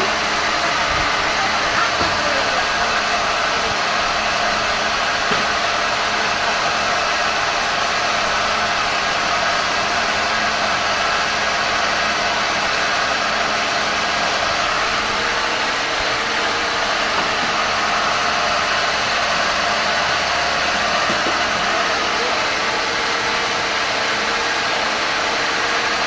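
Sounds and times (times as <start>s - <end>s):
cotton candy machine whirring: 0.0s - 26.0s.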